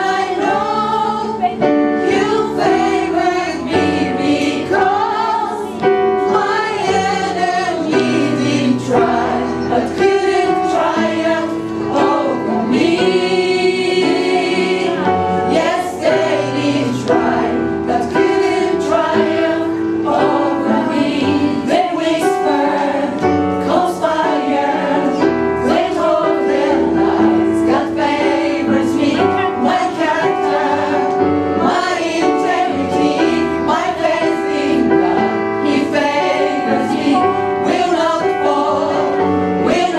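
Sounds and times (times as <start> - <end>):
live gospel song with choir: 0.0 - 39.9.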